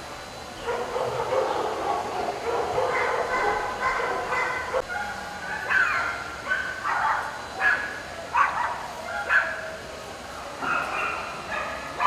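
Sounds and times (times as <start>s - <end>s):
dogs yipping and barking: 0.6s - 9.8s, 10.6s - 12.0s.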